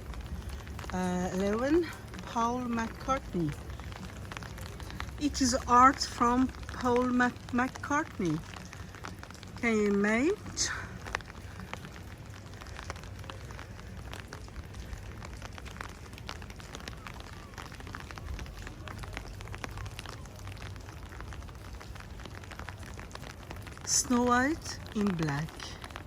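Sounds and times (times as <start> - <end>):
raindrops ticking on a surface: 0.0 - 26.0.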